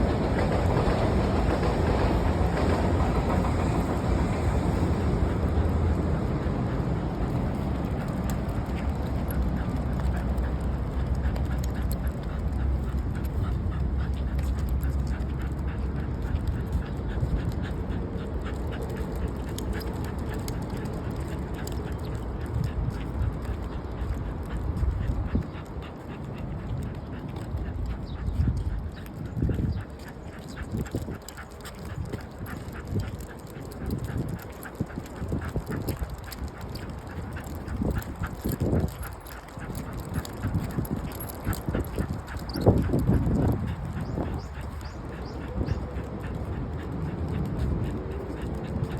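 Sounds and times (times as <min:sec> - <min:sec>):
steady low rumble: 0:00.0 - 0:48.9
dog breathing hard and snuffling: 0:00.2 - 0:48.9.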